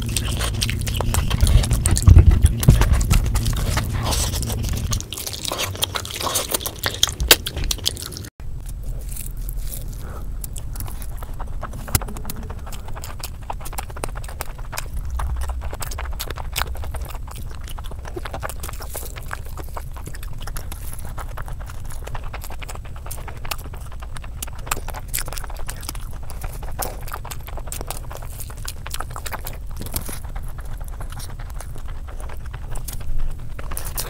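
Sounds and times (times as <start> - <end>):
steady low hum: 0.0 - 34.0
wet chewing mouth clicks: 0.0 - 34.0.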